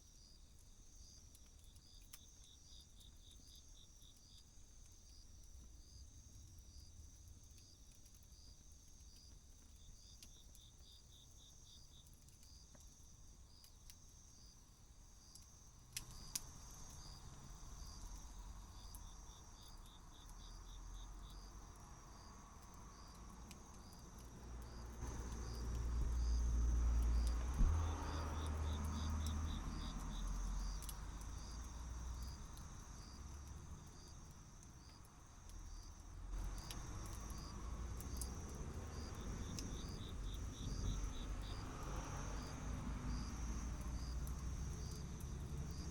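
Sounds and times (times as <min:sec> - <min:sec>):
insects trilling: 0:01.0 - 0:45.9.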